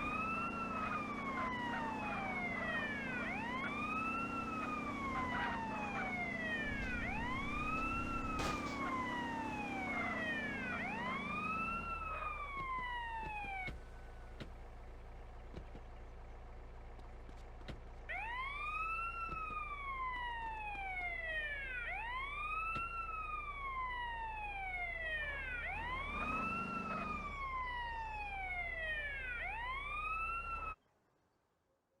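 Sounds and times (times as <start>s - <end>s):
siren wailing: 0.0s - 14.8s, 18.1s - 30.8s.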